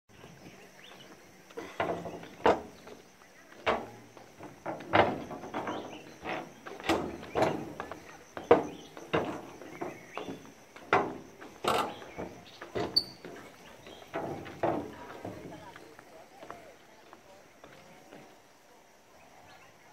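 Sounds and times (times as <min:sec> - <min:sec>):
footsteps on walkway: 0:00.1 - 0:18.6.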